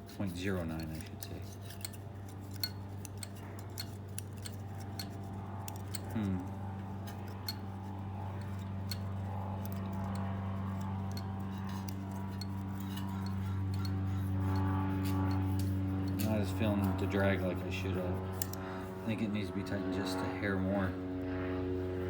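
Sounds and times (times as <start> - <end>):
metal hand tools clicking: 0.0 - 7.7, 8.4 - 18.6
steady low hum: 0.0 - 22.0.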